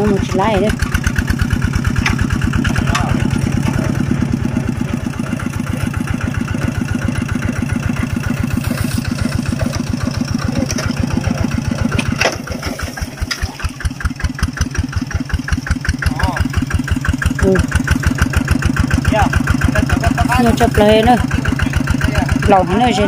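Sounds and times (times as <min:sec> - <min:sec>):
diesel engine chugging: 0:00.0 - 0:23.0.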